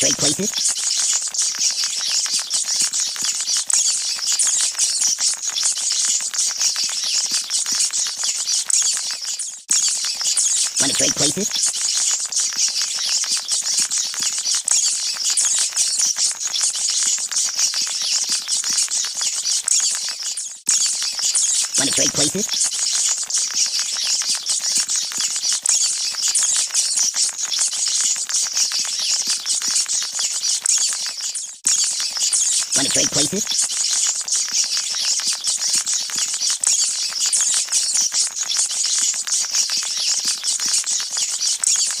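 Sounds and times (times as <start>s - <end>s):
rats skittering clicks: 0.0s - 42.0s
rats squeaking and chittering: 0.0s - 42.0s.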